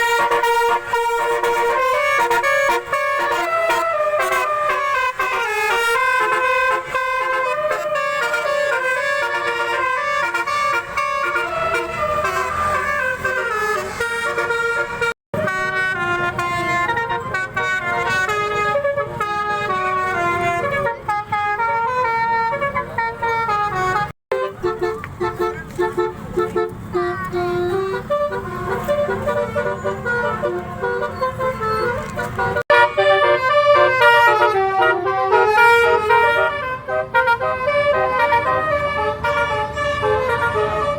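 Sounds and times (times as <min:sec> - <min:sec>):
multi-tone car horns playing notes: 0:00.0 - 0:40.9.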